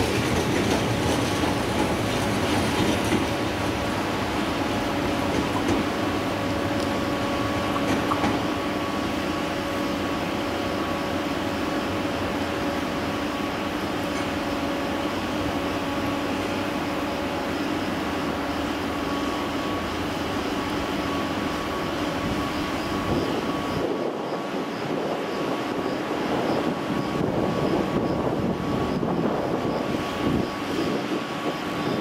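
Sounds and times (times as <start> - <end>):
train approaching with humming whine: 0.0 - 32.0
train running noise: 0.0 - 32.0.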